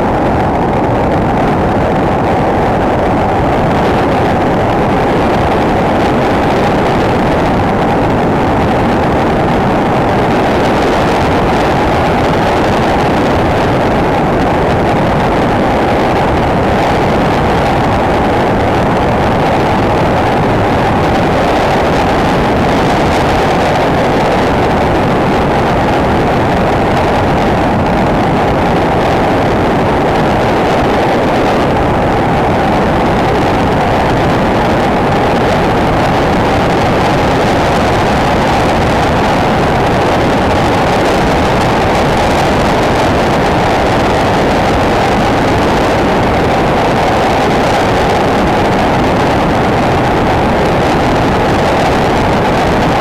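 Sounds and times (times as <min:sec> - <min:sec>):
motorcycle engine and wind rush: 0:00.0 - 0:53.0.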